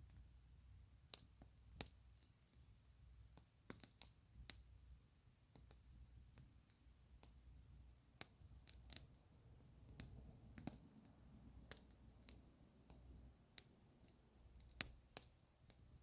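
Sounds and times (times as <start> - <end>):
campfire crackling: 0.0 - 4.6, 5.2 - 16.0.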